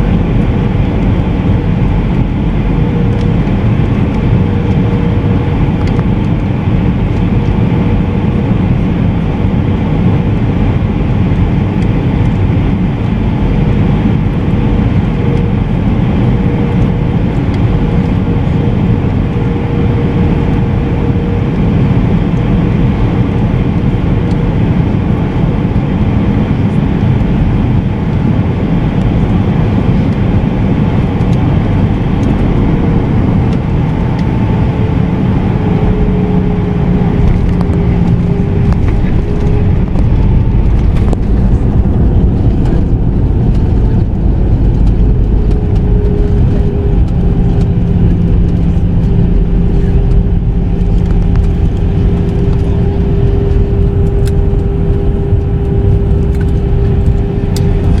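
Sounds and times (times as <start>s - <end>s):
airplane engines and runway rumble: 0.0s - 58.0s
jet engine whine: 0.0s - 58.0s.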